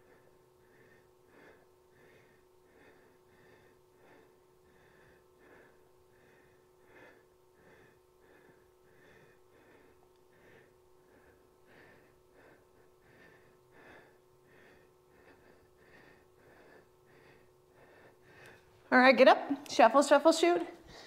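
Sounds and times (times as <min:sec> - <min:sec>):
woman breathing heavily: 0:00.0 - 0:19.3, 0:20.5 - 0:21.0
steady low hum: 0:00.0 - 0:21.0.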